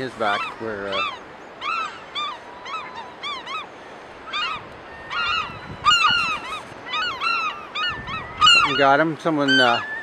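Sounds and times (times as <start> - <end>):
gulls calling: 0.0 - 10.0.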